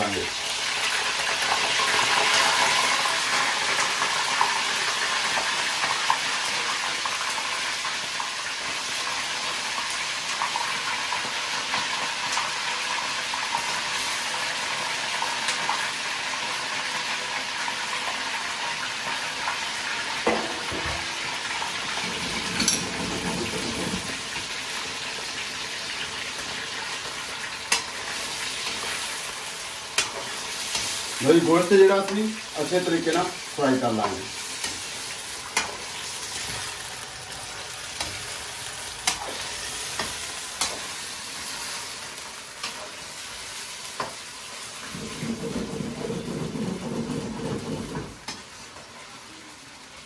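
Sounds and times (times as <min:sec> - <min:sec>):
chicken sizzling in hot oil: 0:00.0 - 0:50.0.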